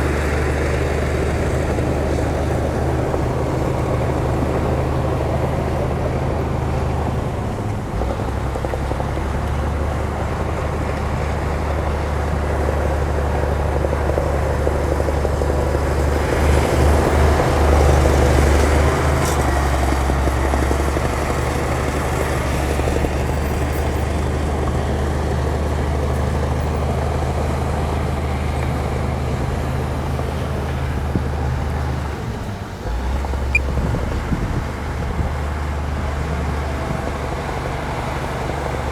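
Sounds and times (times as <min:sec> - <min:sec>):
diesel engine deep hum: 0:00.0 - 0:38.9.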